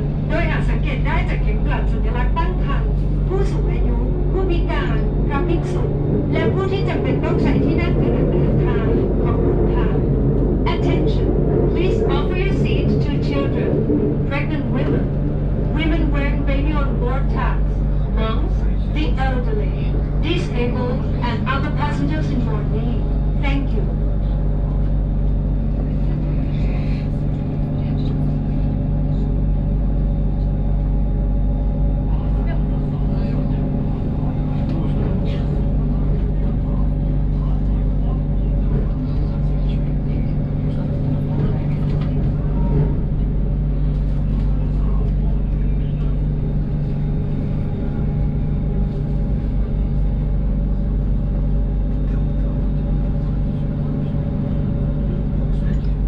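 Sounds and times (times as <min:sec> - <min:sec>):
train car rumble: 0:00.0 - 0:56.0.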